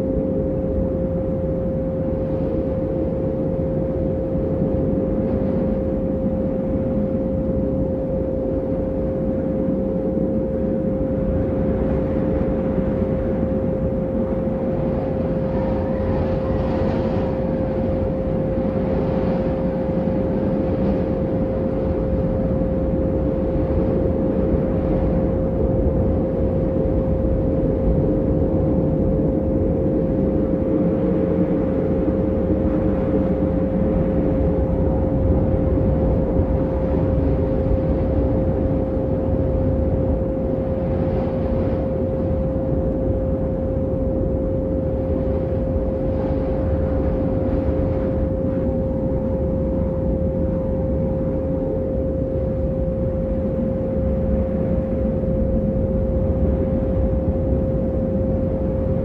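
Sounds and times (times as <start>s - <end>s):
low rumbling drone: 0.0s - 59.0s
steady pure tone: 0.0s - 59.0s.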